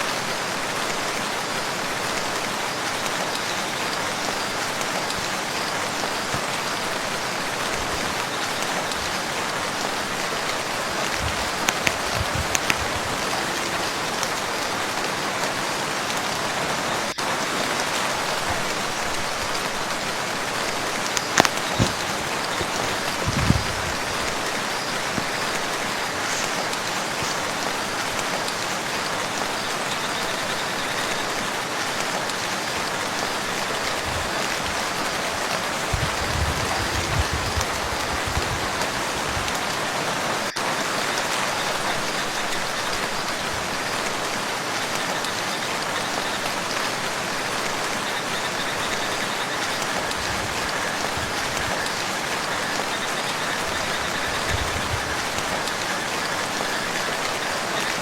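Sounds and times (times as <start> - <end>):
rain falling on a lake: 0.0 - 58.0.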